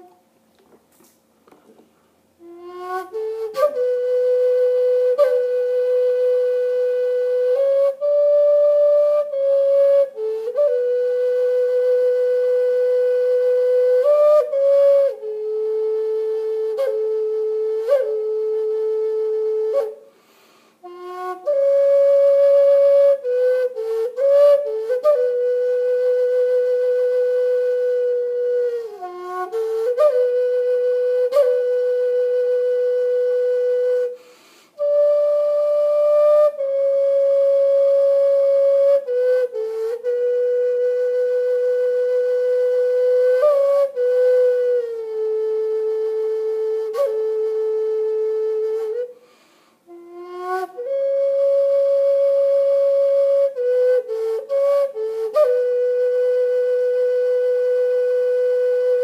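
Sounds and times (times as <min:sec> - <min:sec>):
solo flute slow melody: 0:00.0 - 0:00.4, 0:02.3 - 0:59.0.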